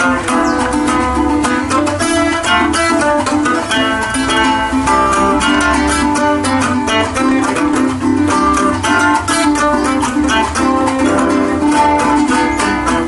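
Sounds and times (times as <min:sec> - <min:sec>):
folk music on plucked strings: 0:00.0 - 0:13.0.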